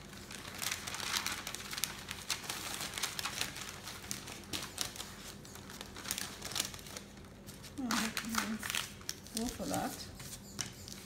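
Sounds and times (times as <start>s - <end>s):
parchment paper crinkling: 0.0s - 11.0s.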